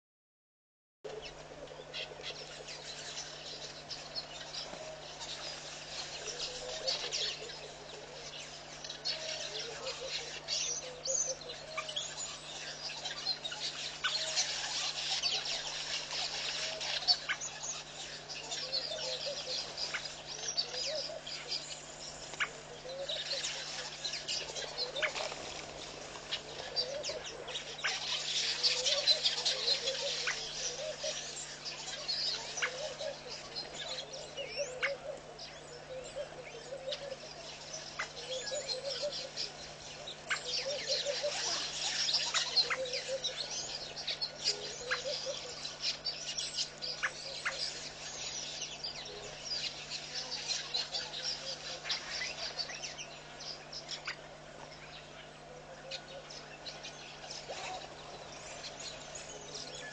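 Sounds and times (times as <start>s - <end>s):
birds chirping and twittering: 1.1s - 59.9s
low rising bird call: 1.1s - 59.9s.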